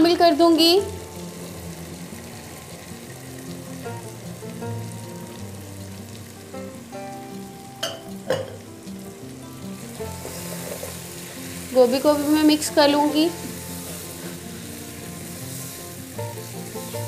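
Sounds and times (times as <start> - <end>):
background music: 0.0 - 17.0
food sizzling in a pot: 0.0 - 17.0.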